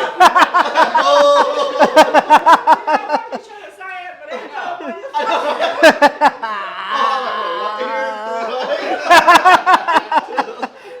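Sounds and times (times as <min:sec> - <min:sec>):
people laughing: 0:00.0 - 0:03.6, 0:04.4 - 0:11.0.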